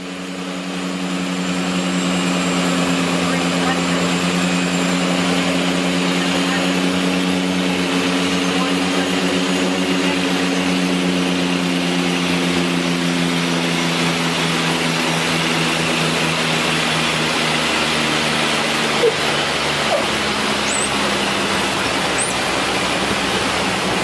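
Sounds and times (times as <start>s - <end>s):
aircraft engine drone: 0.0s - 24.0s.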